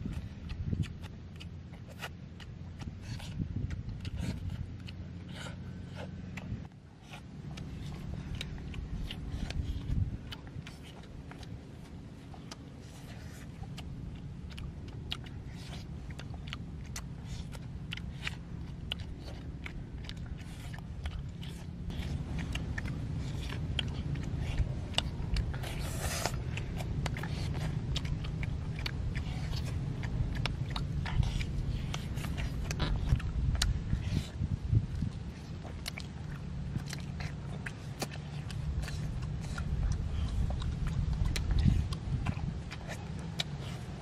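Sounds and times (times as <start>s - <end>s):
children chewing food: 0.0s - 44.0s
low rumble: 0.0s - 44.0s.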